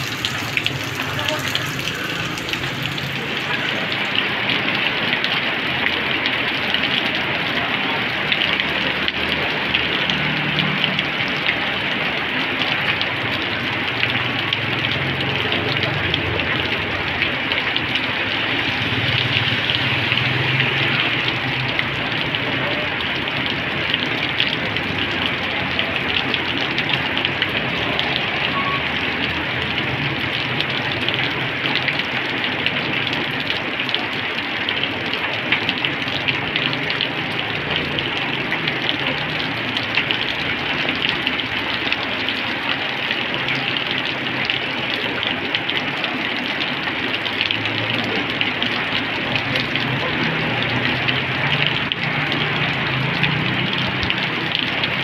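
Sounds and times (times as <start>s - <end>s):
heavy rain on asphalt: 0.0s - 55.0s.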